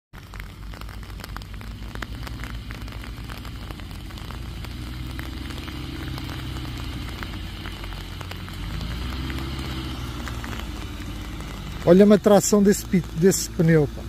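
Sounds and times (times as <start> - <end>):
crackling clicks: 0.1 - 14.0
diesel engine labouring: 0.2 - 14.0.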